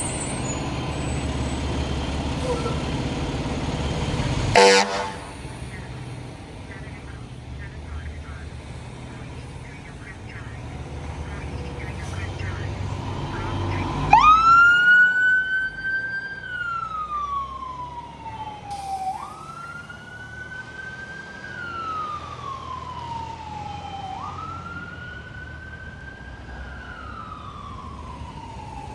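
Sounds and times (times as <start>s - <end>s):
fire engine siren wailing: 0.0s - 28.9s.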